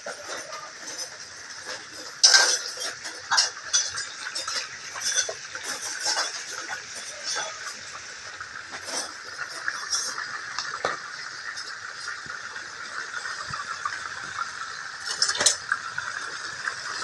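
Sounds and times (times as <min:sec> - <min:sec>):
fish sizzling in oil: 0:00.0 - 0:17.0
oil popping and spattering: 0:00.0 - 0:17.0.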